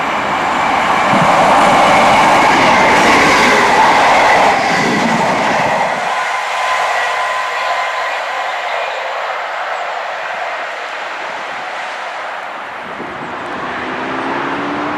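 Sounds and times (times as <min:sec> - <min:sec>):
train passing with wheel noise: 0:00.0 - 0:14.9.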